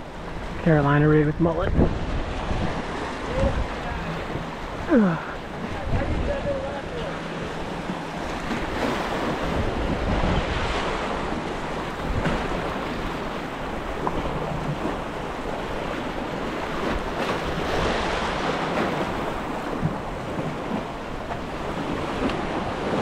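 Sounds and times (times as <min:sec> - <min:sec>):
waves splashing against boulders: 0:00.0 - 0:23.0
wind on microphone: 0:00.0 - 0:23.0.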